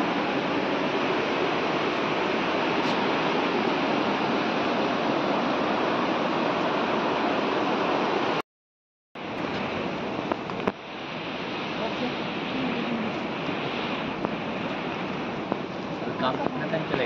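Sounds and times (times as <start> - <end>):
steady rushing noise: 0.0 - 8.4, 9.2 - 17.0.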